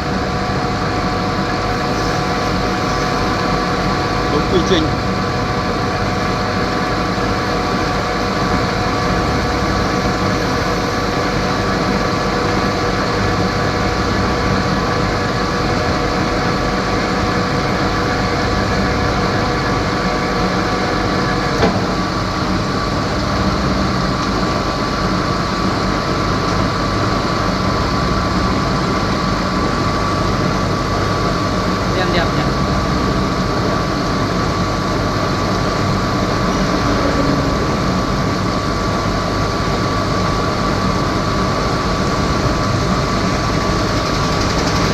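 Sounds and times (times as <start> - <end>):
metal lathe motor whine: 0.0 - 44.9.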